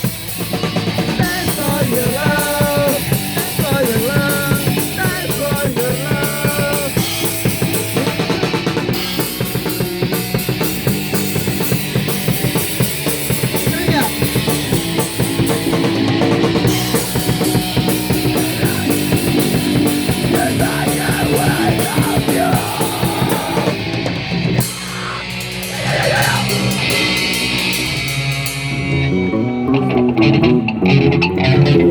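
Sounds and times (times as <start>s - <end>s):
rock band music: 0.0s - 31.9s.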